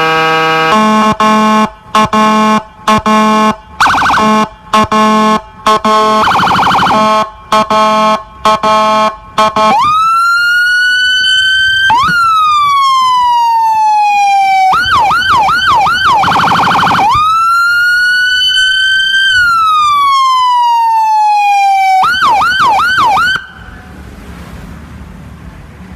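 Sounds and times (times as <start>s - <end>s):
emergency vehicle siren: 0.0s - 24.4s.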